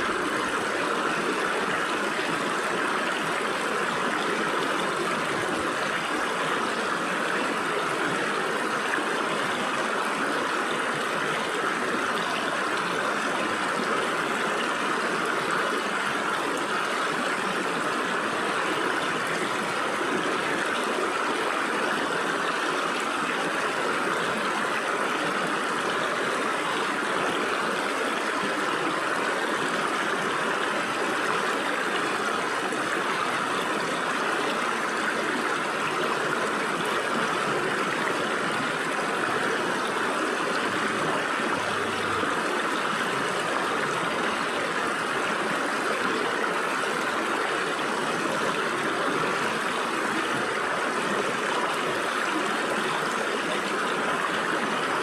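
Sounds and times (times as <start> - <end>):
stream water splashing over rocks: 0.0 - 55.0.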